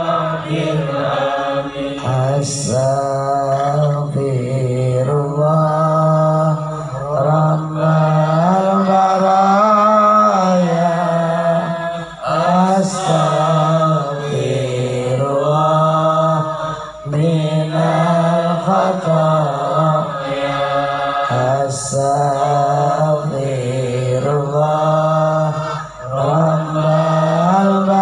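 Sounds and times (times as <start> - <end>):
man chanting through pa system: 0.0 - 28.0.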